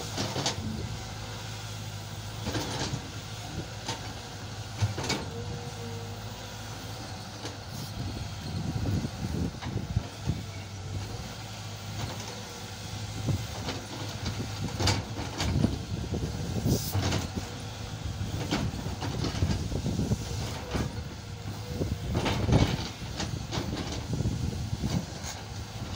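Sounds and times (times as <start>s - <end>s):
excavator engine running: 0.0s - 25.9s.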